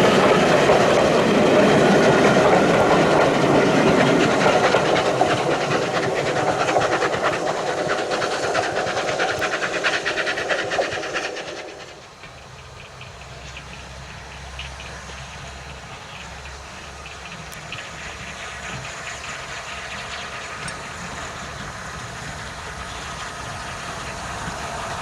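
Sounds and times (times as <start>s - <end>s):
train wheels clicking over rail joints: 0.0s - 25.0s.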